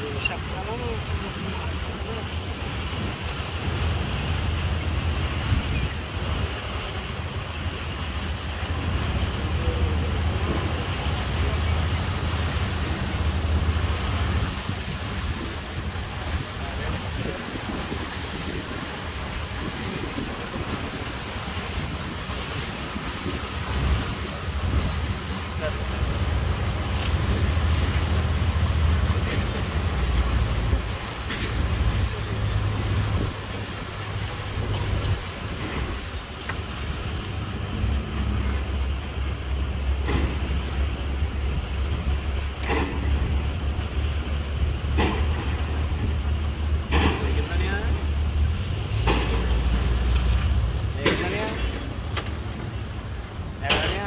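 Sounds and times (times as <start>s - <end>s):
boat engine rumbling: 0.0s - 54.0s
river water rushing: 0.0s - 54.0s
wind buffeting microphone: 0.0s - 54.0s.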